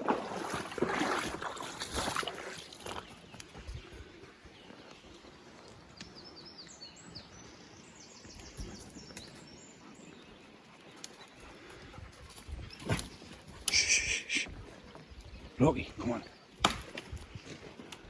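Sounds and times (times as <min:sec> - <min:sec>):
faint outdoor background noise: 0:00.0 - 0:18.0
songbird chirping: 0:00.3 - 0:18.0.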